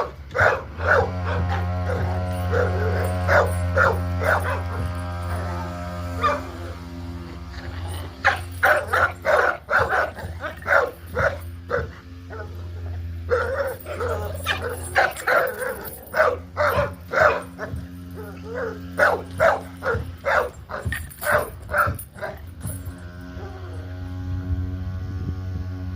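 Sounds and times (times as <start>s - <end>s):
puppies yipping and barking: 0.0s - 24.0s
steady low hum: 0.0s - 25.9s.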